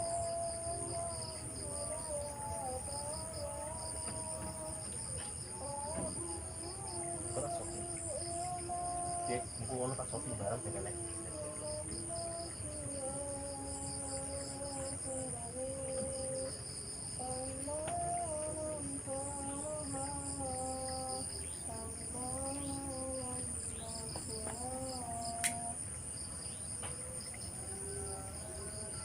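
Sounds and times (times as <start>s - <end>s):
night insects chirping: 0.0s - 29.0s.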